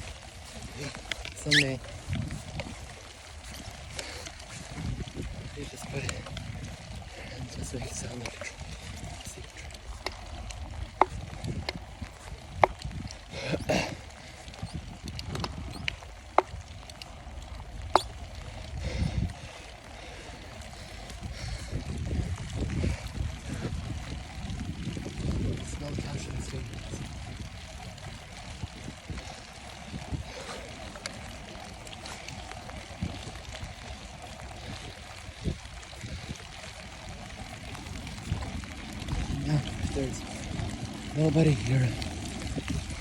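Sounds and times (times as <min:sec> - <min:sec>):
tyre and road noise: 0:00.0 - 0:43.0
wind rumbling on microphone: 0:00.0 - 0:43.0.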